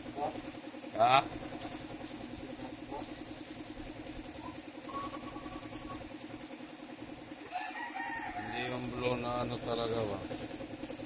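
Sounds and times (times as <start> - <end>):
motor idling: 0.0 - 11.0.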